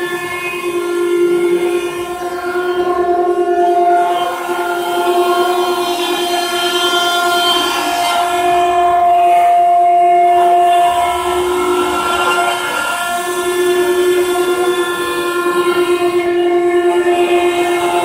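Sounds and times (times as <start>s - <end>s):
router spindle whining: 0.0s - 18.0s.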